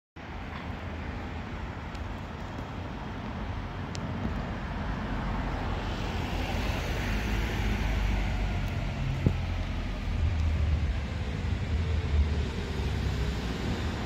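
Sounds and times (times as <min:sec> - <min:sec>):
train rumble: 0:00.3 - 0:14.0.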